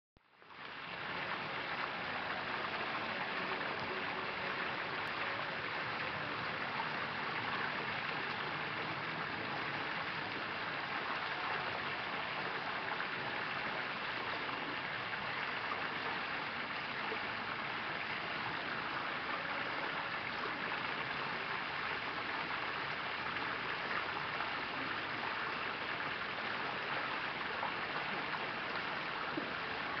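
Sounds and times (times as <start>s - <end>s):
running water rushing: 0.2s - 30.0s.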